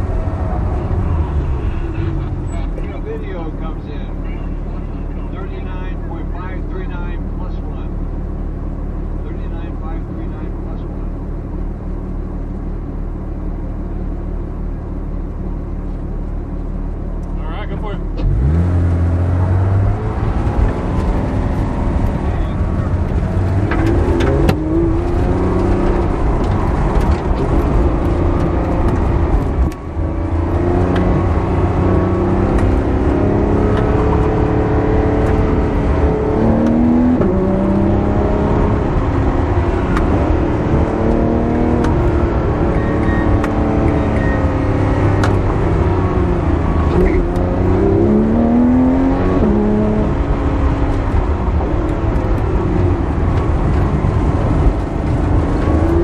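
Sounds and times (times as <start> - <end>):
car engine revving inside cabin: 9.1 - 56.0.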